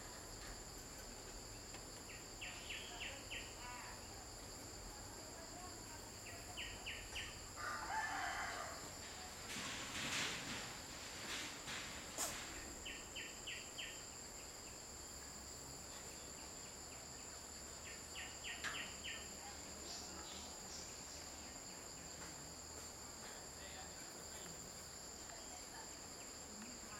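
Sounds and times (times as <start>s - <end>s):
insects droning: 0.0s - 26.9s.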